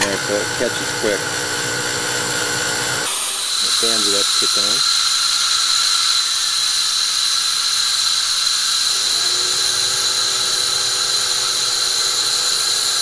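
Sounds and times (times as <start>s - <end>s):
blower fan high whine: 0.0s - 13.0s.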